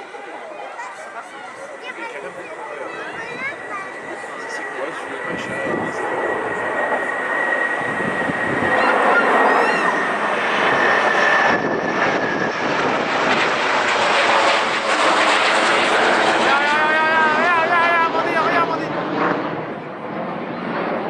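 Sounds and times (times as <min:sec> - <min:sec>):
military aircraft roar: 0:00.0 - 0:21.0.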